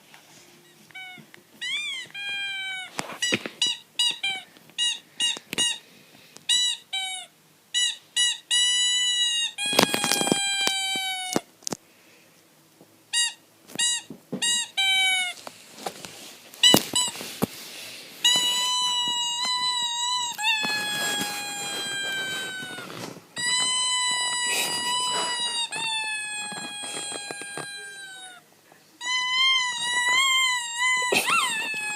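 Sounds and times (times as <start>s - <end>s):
squeaky toy squeaks: 0.7s - 5.8s, 6.5s - 11.4s, 13.1s - 15.4s, 16.6s - 17.2s, 18.2s - 28.4s, 29.0s - 31.9s.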